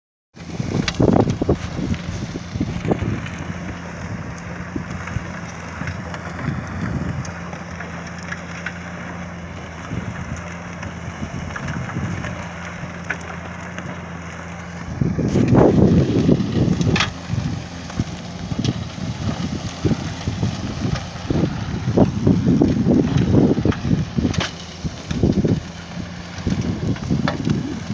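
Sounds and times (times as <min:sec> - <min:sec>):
wind buffeting microphone: 0:00.4 - 0:08.1, 0:08.7 - 0:27.9
truck and manure spreader humming: 0:00.4 - 0:27.9.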